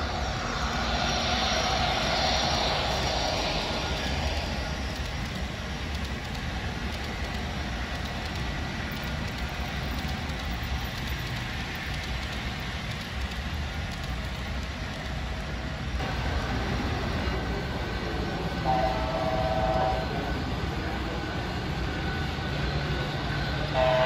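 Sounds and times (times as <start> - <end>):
model train wheels rumbling: 1.0 - 24.0.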